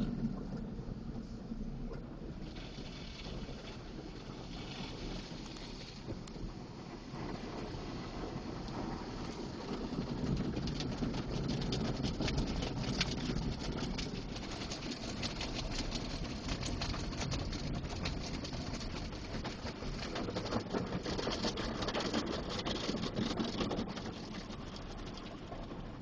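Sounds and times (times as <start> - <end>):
water pattering on car body: 0.0 - 26.0.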